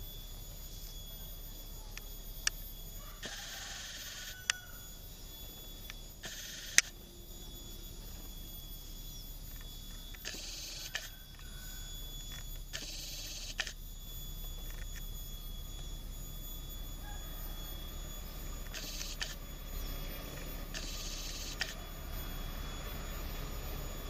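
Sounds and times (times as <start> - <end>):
faint background hum: 0.0 - 24.0
camera zoom motor whirring: 1.6 - 24.0.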